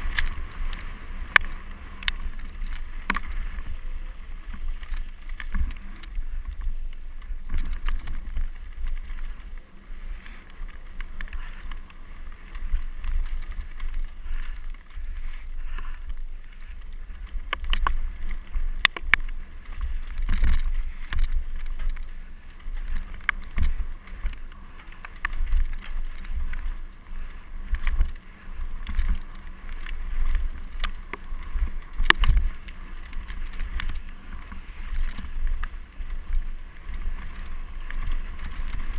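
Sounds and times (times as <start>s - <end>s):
bike rattling over rocks: 0.0s - 38.9s.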